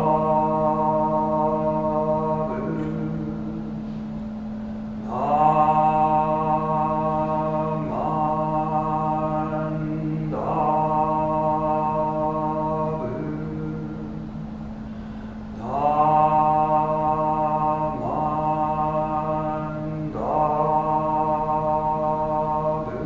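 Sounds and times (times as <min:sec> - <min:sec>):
man chanting: 0:00.0 - 0:03.9, 0:05.0 - 0:14.3, 0:15.6 - 0:23.0.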